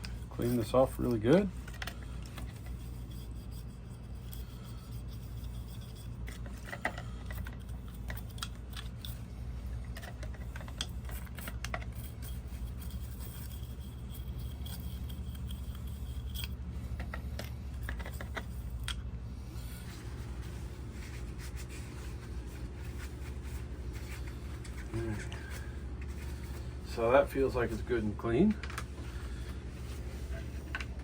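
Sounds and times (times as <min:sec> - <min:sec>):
wire brush scratching: 0:00.0 - 0:09.3, 0:09.9 - 0:28.0
steady low hum: 0:00.0 - 0:31.0.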